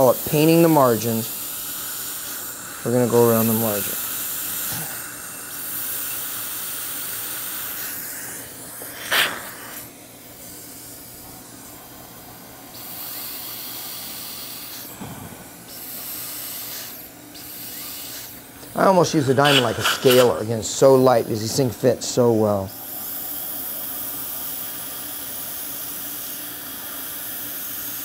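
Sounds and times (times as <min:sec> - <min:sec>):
dental drill hissing: 0:00.0 - 0:28.0
dental suction hissing: 0:00.0 - 0:28.0.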